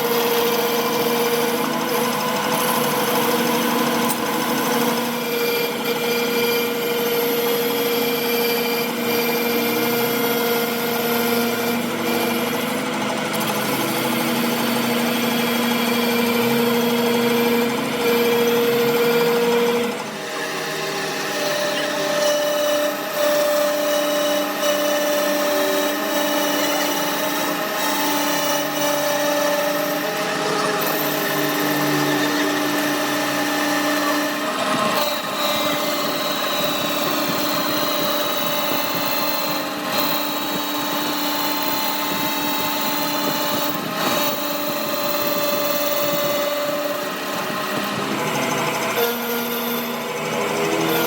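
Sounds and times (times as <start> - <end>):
electric machine tool whining: 0.0 - 51.0.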